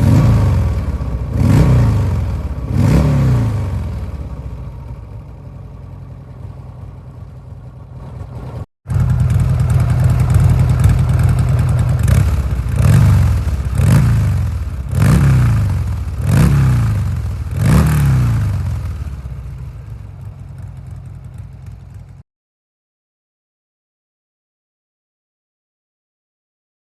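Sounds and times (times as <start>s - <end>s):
motorcycle engine idling and revving: 0.0s - 22.2s.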